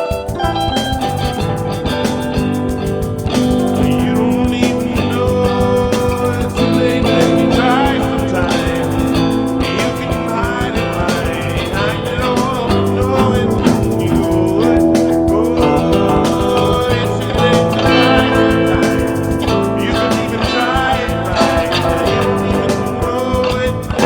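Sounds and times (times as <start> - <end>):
drum beat: 0.0 - 24.0
guitar: 0.0 - 24.0
person singing: 3.2 - 24.0.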